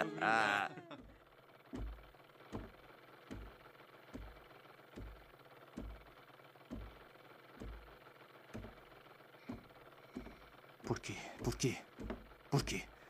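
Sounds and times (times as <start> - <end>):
low thumps with clicks: 1.0 - 12.5.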